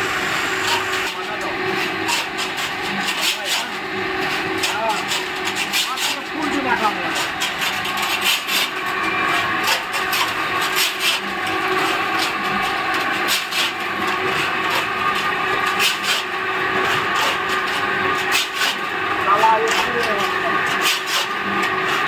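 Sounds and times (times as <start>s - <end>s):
low motor hum: 0.0s - 22.0s
mixer blades scraping gritty mix: 0.0s - 22.0s.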